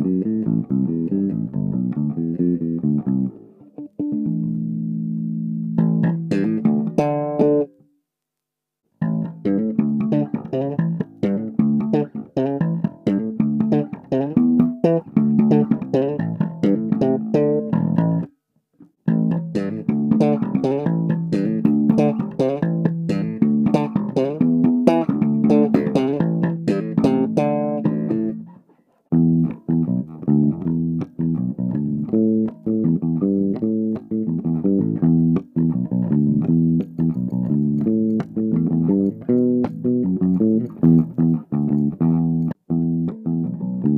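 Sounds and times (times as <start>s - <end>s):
guitar picked notes: 0.0s - 7.8s, 9.0s - 43.9s.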